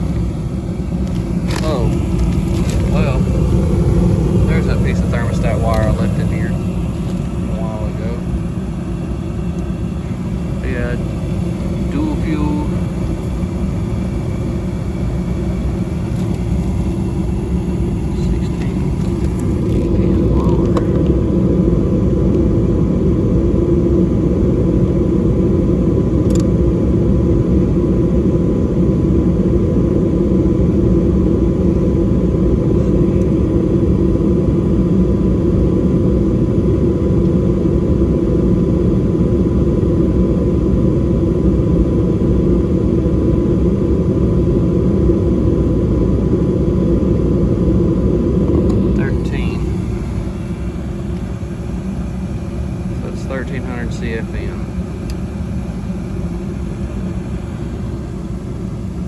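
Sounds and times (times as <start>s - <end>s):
faint steady whine: 0.0s - 59.0s
heating system motor and air rumble: 0.0s - 59.0s.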